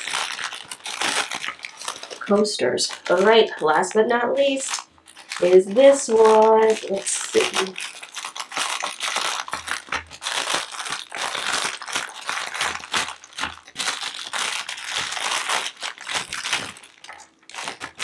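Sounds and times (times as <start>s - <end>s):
plastic wrapper crinkling: 0.0s - 18.0s.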